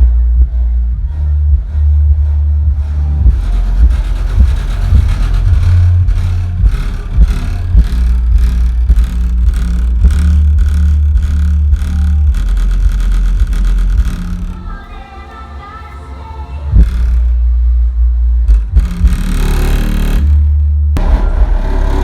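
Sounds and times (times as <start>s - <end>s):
bass-heavy electronic music: 0.0s - 22.0s.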